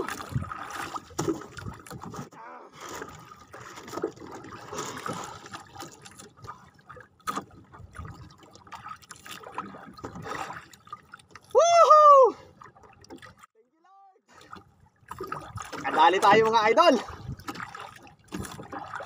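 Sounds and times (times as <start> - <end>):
water trickling and lapping: 0.0 - 13.6, 14.2 - 19.0.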